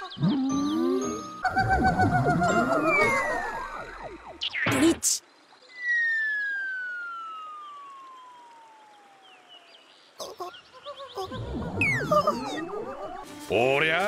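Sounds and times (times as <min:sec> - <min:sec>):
chirpy electronic tones and clicks: 0:00.0 - 0:09.5, 0:11.3 - 0:13.2.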